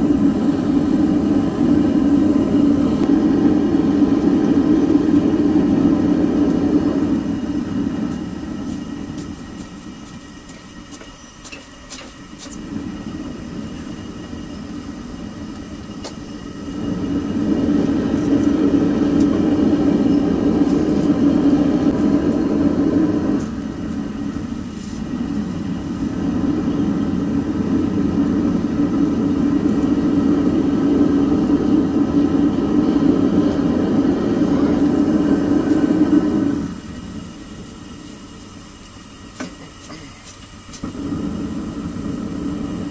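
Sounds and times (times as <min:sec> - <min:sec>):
gas furnace burner roaring: 0:00.0 - 0:42.9.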